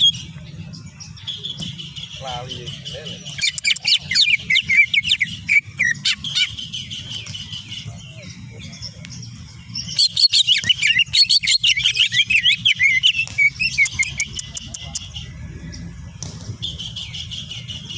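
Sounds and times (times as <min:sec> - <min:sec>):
bird singing chirps and whistles: 0:00.0 - 0:15.8, 0:16.6 - 0:17.9
low steady hum: 0:00.0 - 0:17.9.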